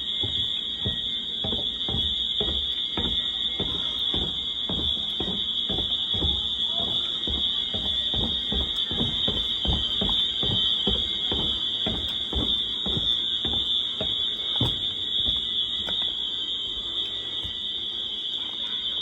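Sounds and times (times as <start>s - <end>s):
pulsing fire alarm horns: 0.0s - 19.0s
steady high-pitched alarm tone: 0.0s - 19.0s.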